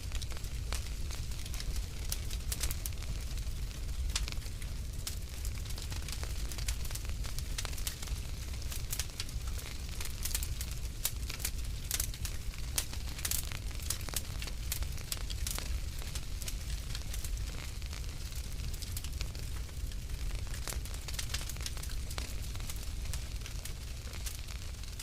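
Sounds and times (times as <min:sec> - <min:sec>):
fireplace fire crackling: 0:00.0 - 0:25.0.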